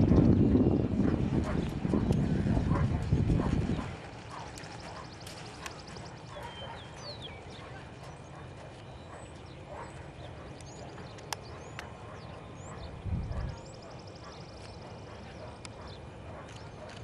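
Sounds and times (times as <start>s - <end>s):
soft hoofbeats on sand: 0.4s - 17.0s.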